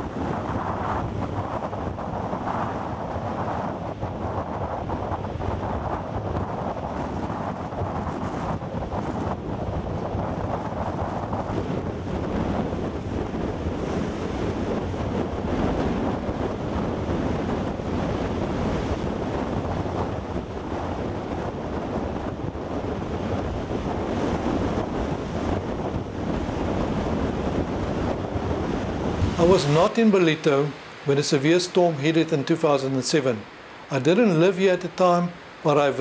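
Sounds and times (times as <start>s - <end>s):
surf crashing ashore: 0.0s - 36.0s
wind buffeting microphone: 0.0s - 36.0s.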